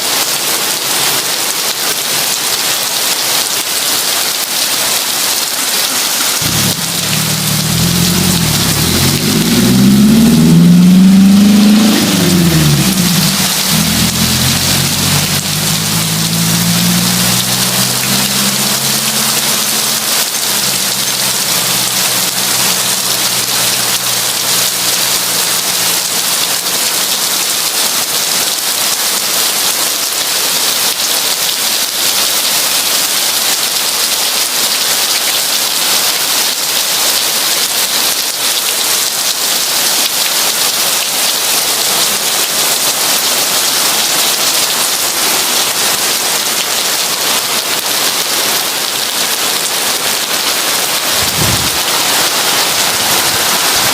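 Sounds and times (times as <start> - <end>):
heavy rain on a window: 0.0 - 53.9.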